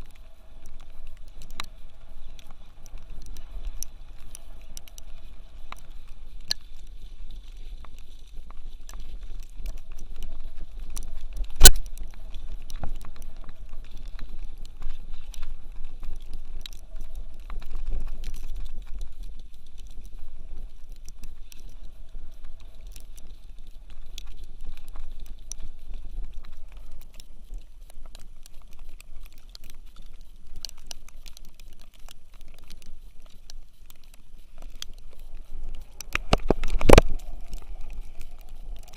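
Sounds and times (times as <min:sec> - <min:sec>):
light pattering and ticking: 0:00.0 - 0:38.9.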